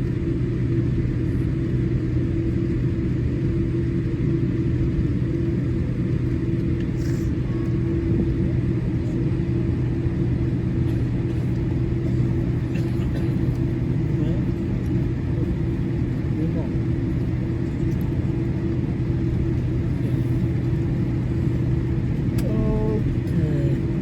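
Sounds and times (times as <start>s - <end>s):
airplane cabin hum: 0.0s - 24.0s.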